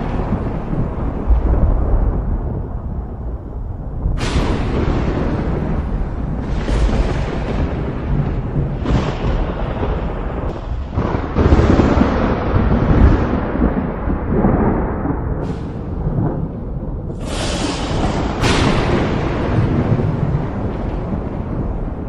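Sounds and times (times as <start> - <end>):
thunder cracks and rumbles: 0.0 - 22.0.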